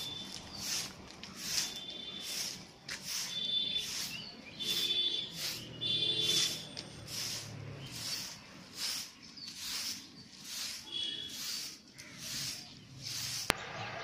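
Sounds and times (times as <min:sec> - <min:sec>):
broom sweeping bricks: 0:00.0 - 0:13.6.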